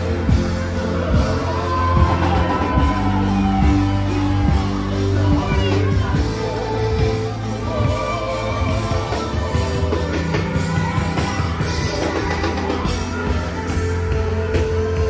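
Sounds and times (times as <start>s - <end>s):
bass line: 0.0s - 15.0s
drums: 0.0s - 15.0s
live rock music: 0.0s - 15.0s
person singing: 0.0s - 15.0s.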